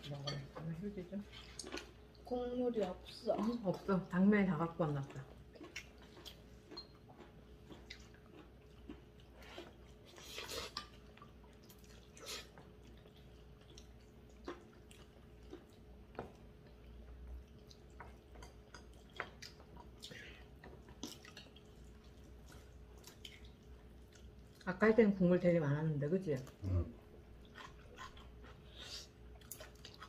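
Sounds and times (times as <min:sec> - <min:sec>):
faint steady hum: 0:00.0 - 0:30.0
chewing: 0:01.2 - 0:03.9, 0:04.9 - 0:24.7, 0:26.4 - 0:30.0.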